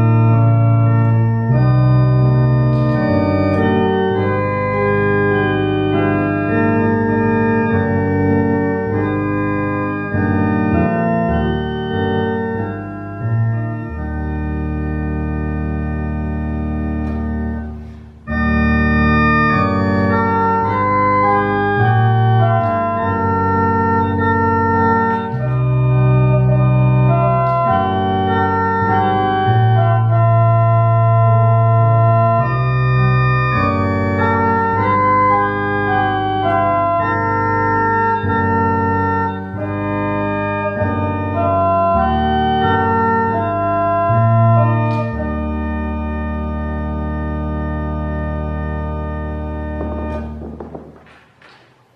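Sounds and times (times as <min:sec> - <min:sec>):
church organ playing a hymn: 0:00.0 - 0:51.9.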